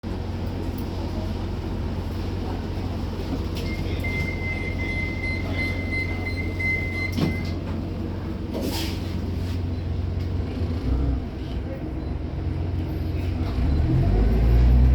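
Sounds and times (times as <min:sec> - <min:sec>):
bus diesel engine humming: 0:00.0 - 0:14.9.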